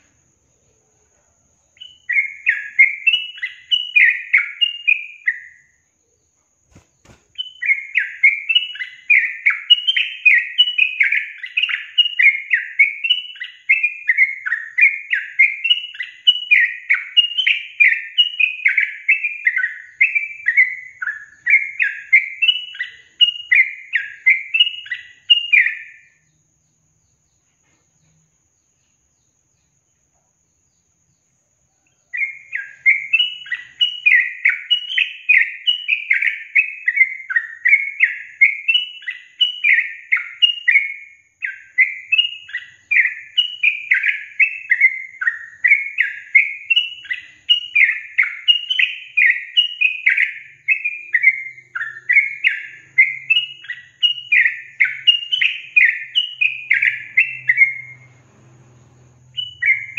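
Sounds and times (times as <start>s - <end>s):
bulbul song: 0.0s - 59.9s.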